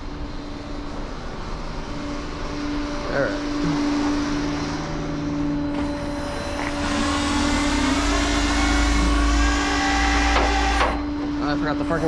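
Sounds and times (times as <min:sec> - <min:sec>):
hydraulic winch whine: 0:00.0 - 0:12.0
tow truck engine drone: 0:00.0 - 0:12.0.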